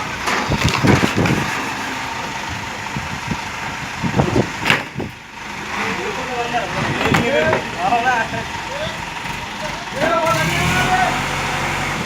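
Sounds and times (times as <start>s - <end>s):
crane diesel engine running: 0.0s - 12.0s.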